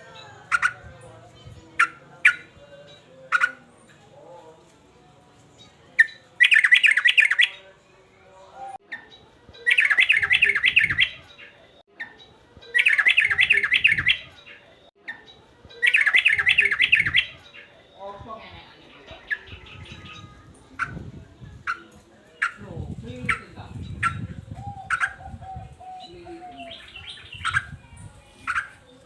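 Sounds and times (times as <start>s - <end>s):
bulbul singing: 0.0s - 4.3s, 5.6s - 29.0s.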